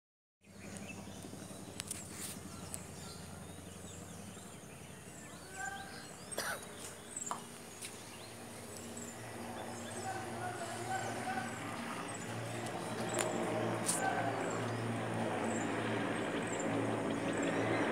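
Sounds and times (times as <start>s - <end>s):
birds chirping: 0.4s - 17.9s
distant helicopters droning: 0.4s - 17.9s.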